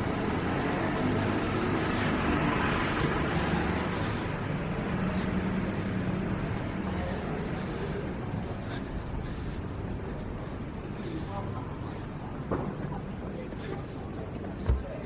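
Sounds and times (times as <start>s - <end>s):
vehicles driving past: 0.0s - 15.0s.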